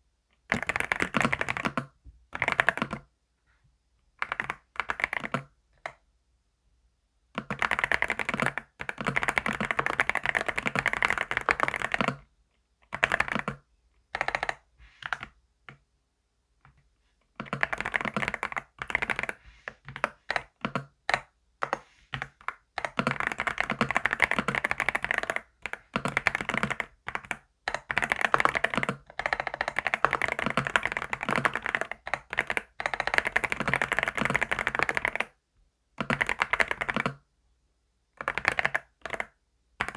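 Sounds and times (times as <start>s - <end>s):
typing on computer keyboard: 0.4s - 3.1s, 4.2s - 6.0s, 7.4s - 12.2s, 12.8s - 15.8s, 17.4s - 35.4s, 36.0s - 37.2s, 38.2s - 39.9s.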